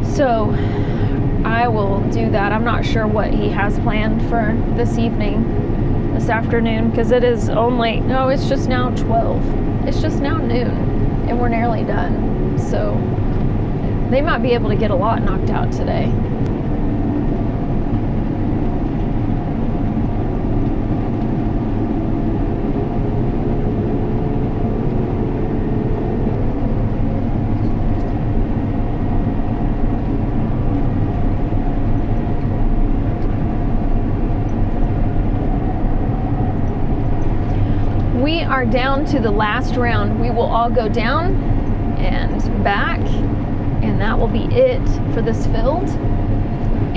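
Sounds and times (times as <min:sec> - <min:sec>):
harvester engine droning: 0:00.0 - 0:46.9.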